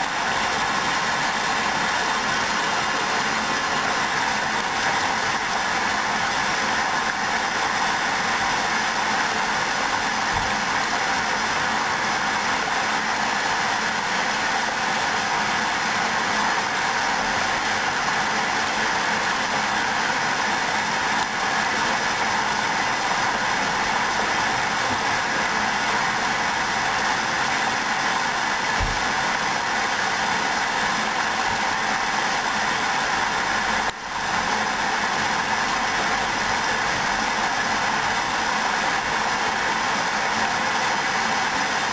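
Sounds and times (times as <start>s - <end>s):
washing machine running: 0.0s - 41.9s.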